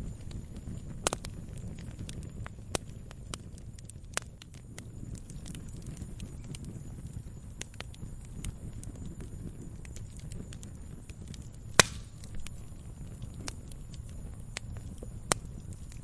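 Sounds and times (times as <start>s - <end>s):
campfire rumbling: 0.0s - 16.0s
fire crackling and popping: 0.0s - 16.0s.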